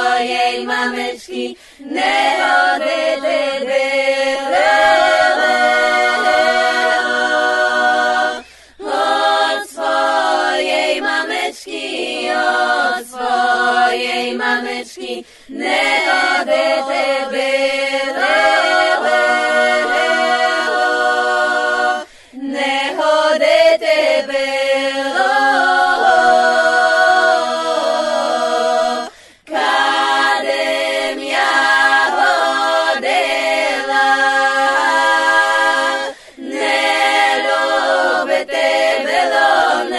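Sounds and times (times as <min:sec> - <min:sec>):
unaccompanied choir singing: 0:00.0 - 0:39.9.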